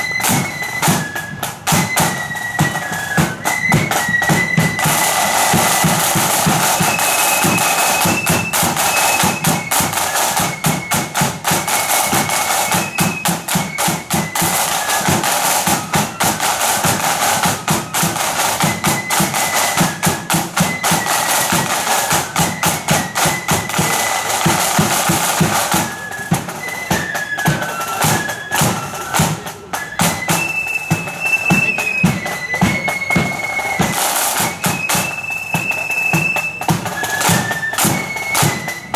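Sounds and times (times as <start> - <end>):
high flute melody: 0.0 - 38.9
rapid snare drum strokes: 0.0 - 38.9.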